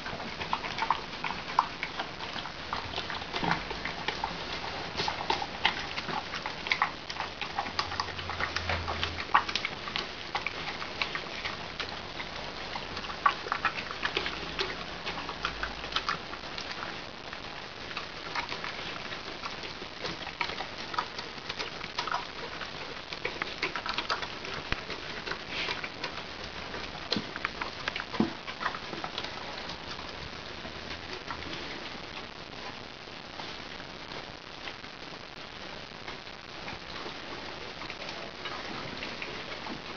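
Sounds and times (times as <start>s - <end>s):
animals chewing and lapping: 0.0s - 39.9s.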